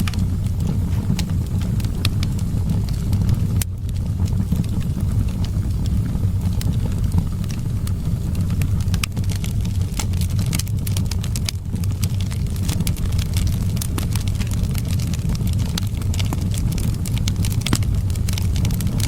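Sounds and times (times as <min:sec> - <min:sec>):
low rumble of wind: 0:00.0 - 0:19.0
wood fire crackling and popping: 0:00.0 - 0:19.0.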